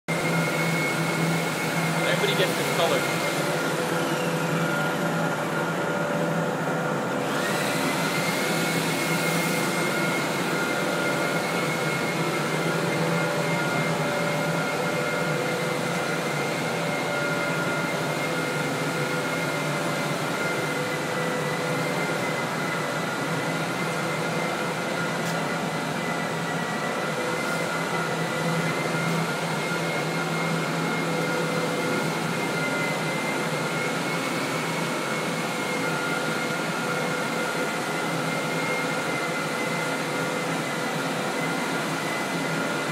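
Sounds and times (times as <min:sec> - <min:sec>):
electric motor whine: 0:00.1 - 0:42.9.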